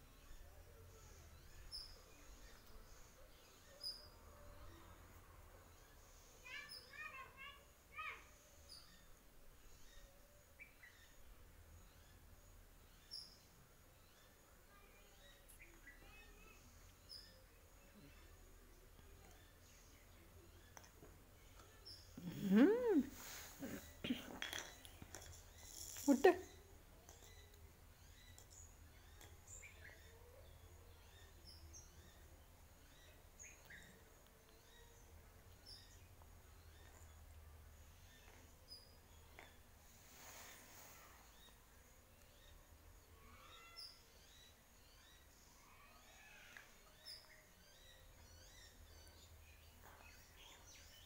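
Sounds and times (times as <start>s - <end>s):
birds chirping: 5.8s - 51.0s.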